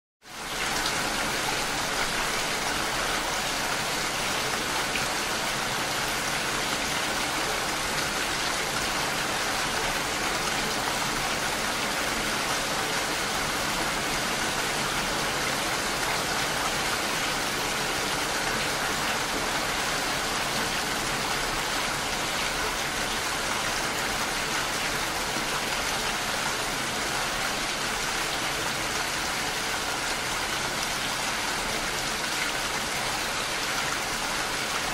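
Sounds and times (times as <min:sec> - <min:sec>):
steady rain: 0:00.2 - 0:34.9.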